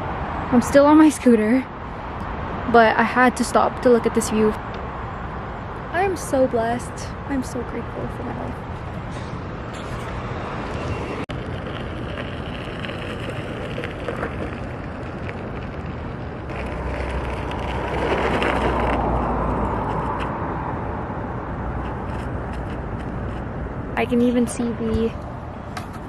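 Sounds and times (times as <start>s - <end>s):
traffic rushing: 0.0s - 26.0s
wind noise: 0.0s - 26.0s.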